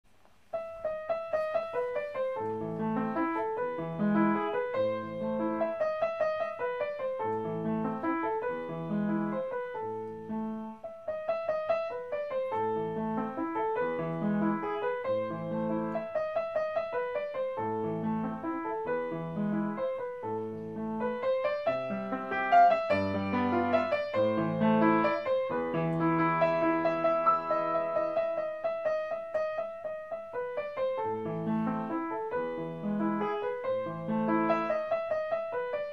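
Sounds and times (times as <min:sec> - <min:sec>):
piano music: 0:00.4 - 0:35.9.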